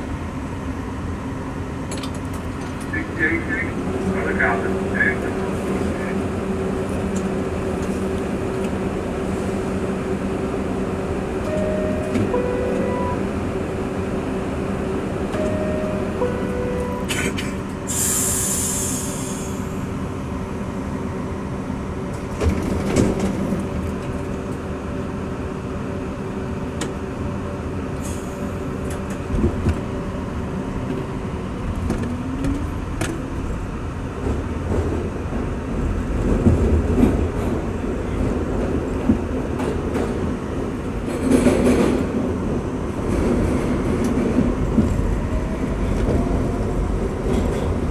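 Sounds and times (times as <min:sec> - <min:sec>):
subway wheels rumbling on rail: 0:00.0 - 0:47.9.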